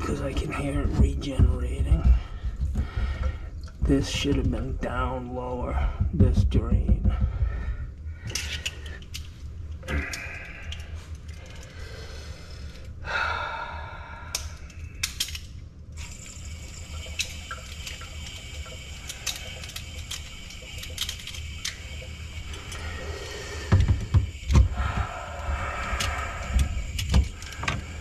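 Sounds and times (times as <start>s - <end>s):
low steady hum: 0.0s - 28.0s
water running through pipes: 0.0s - 28.0s.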